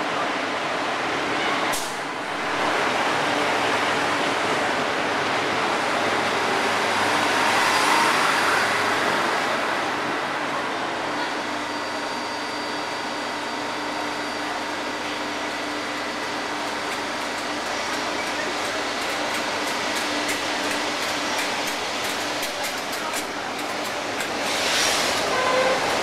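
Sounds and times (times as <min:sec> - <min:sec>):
train wheels rumbling on rail: 0:00.1 - 0:26.0.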